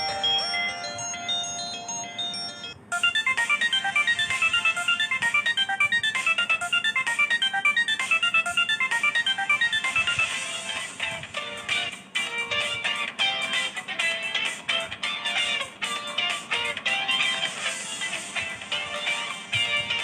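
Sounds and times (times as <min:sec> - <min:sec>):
phone ringtone melody: 0:00.0 - 0:20.0.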